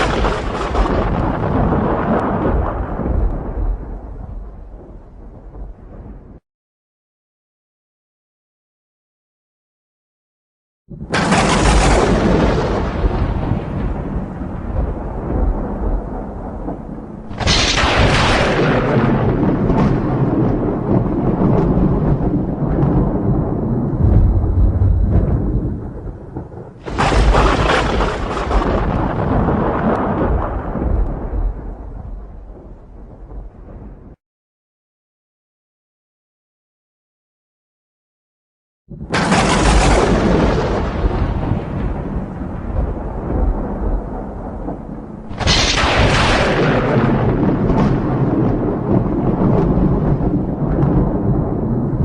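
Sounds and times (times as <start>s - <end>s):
thunder clap: 0.0s - 6.4s, 10.9s - 34.2s, 38.9s - 52.0s
thunder rumbling: 0.0s - 6.4s, 10.9s - 34.2s, 38.9s - 52.0s.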